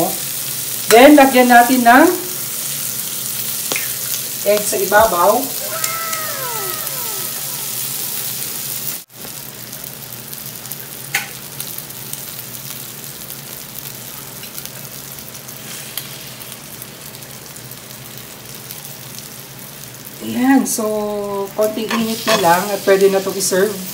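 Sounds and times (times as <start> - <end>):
food sizzling on hot plate: 0.0 - 23.9.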